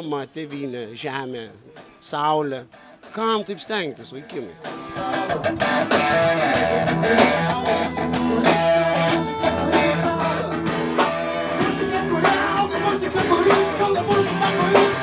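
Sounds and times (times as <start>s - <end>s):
guitar-led rock music: 1.4s - 15.0s.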